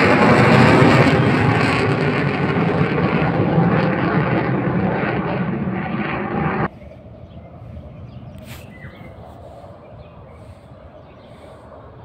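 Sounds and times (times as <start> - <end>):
jet engine overhead: 0.0 - 12.0.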